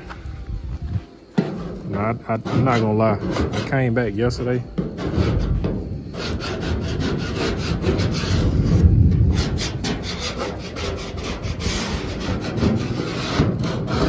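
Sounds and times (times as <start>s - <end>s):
scraper scraping metal: 1.4s - 14.0s.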